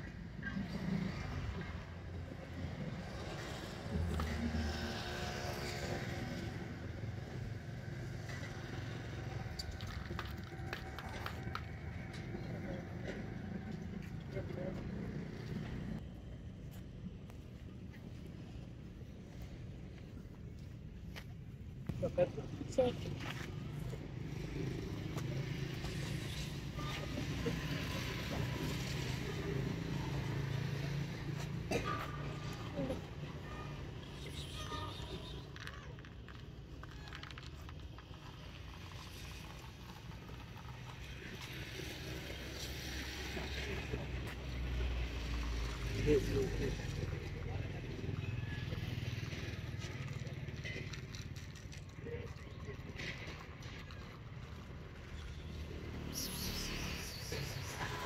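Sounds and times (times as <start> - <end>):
road traffic rumble: 0.0 - 58.0
vehicle engine hum: 0.0 - 58.0.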